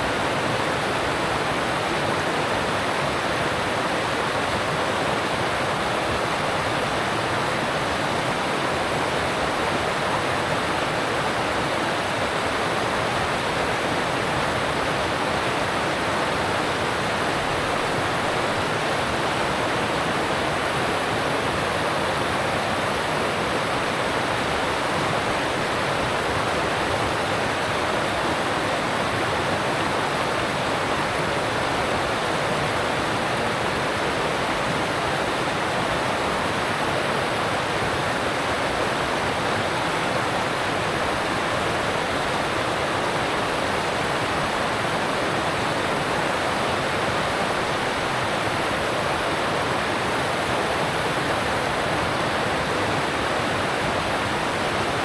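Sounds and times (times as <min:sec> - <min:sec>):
mountain stream rushing over rocks: 0:00.0 - 0:55.0.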